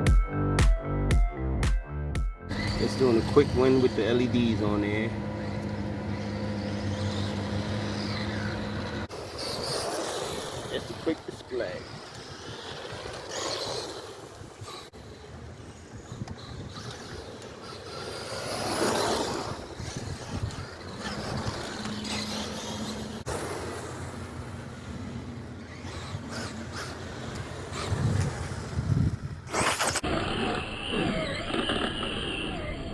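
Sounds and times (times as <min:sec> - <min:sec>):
rc car motor running: 0:02.5 - 0:32.9
tyres rolling over ground: 0:02.5 - 0:32.9.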